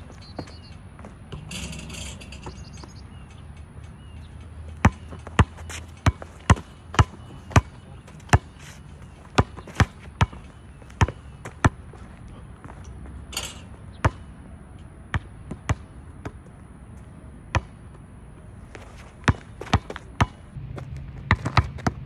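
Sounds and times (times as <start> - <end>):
basketball bouncing on asphalt: 0.0 - 1.4, 2.4 - 16.8, 17.4 - 22.0.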